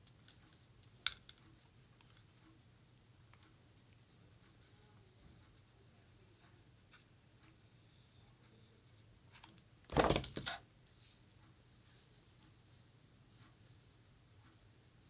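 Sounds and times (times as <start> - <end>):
faint handling sounds: 0.0 - 15.0.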